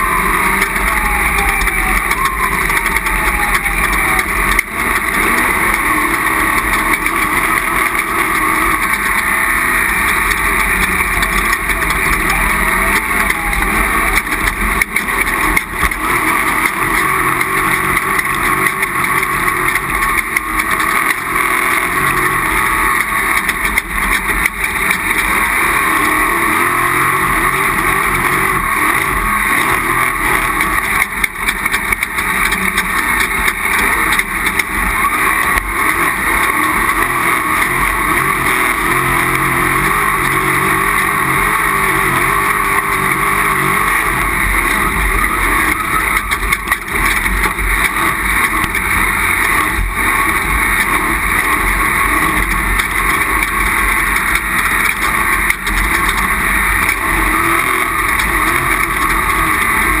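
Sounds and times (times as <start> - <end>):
vehicle engine running hard: 0.0 - 60.0.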